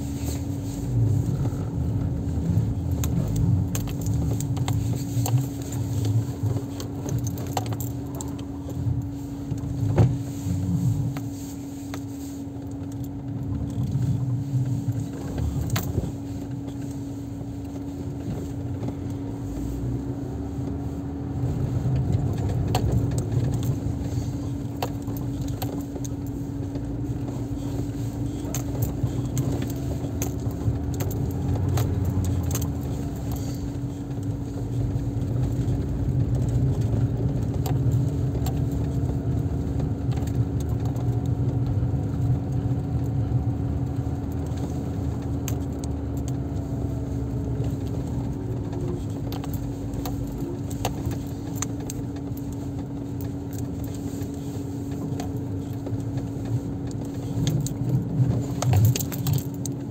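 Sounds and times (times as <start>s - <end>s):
car rattles and clicks: 0.0s - 59.9s
engine and tyres rumbling: 0.0s - 59.9s.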